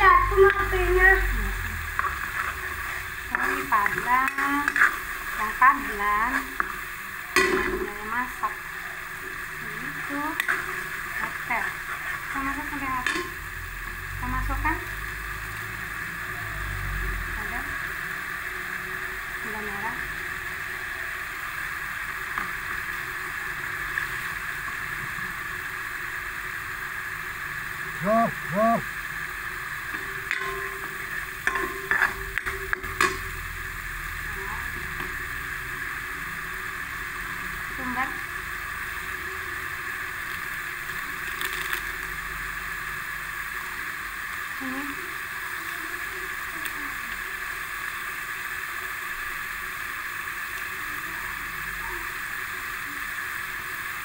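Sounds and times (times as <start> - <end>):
liquid boiling in a wok: 0.0 - 54.0.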